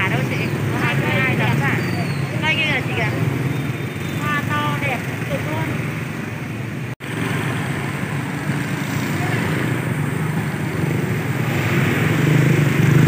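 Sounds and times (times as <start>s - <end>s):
motorbike and car traffic: 0.0s - 13.0s.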